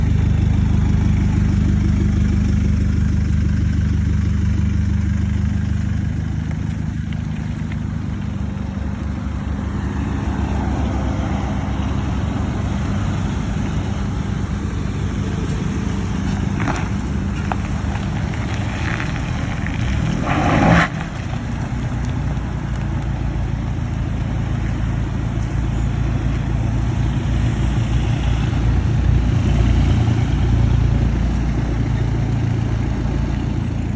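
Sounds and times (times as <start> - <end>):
pickup truck engine idling: 0.0 - 20.2, 20.9 - 29.5.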